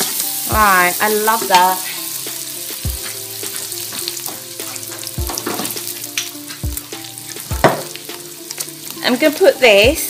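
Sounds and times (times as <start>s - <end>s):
meat sizzling in a pot: 0.0s - 10.0s.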